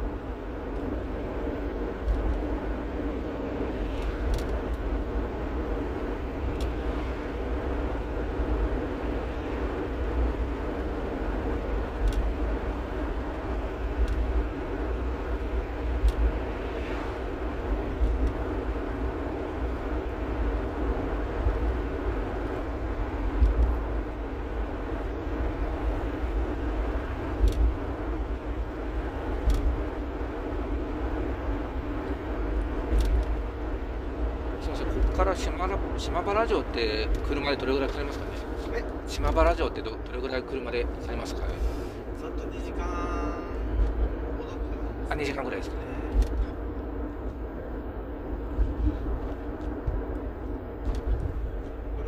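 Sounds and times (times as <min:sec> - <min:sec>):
low rumble of tyres and engine: 0:00.0 - 0:52.0.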